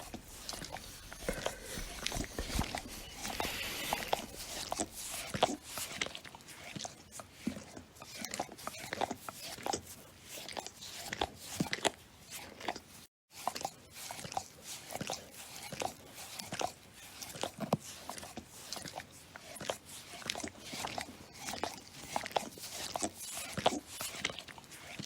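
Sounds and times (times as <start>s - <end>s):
dog licking and slurping: 0.0s - 12.8s, 13.4s - 25.0s.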